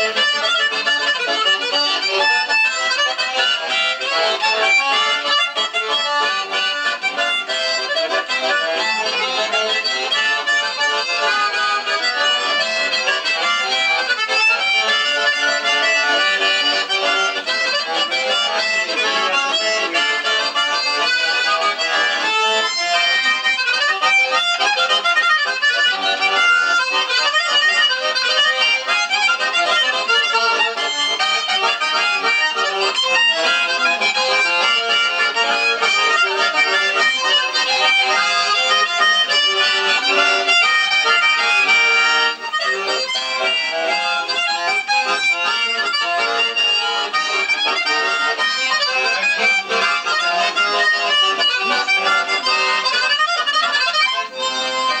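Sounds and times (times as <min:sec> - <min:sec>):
button accordion playing a tune: 0:00.0 - 0:55.0.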